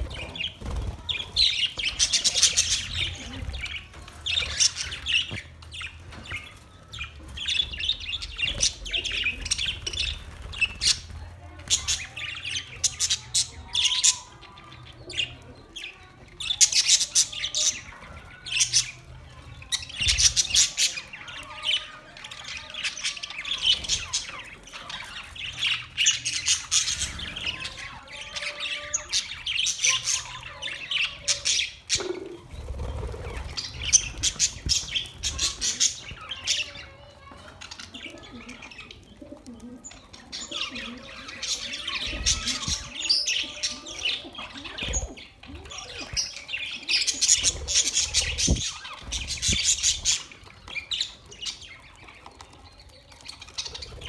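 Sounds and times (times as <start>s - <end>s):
budgerigars chirping and squawking: 0.0s - 54.0s.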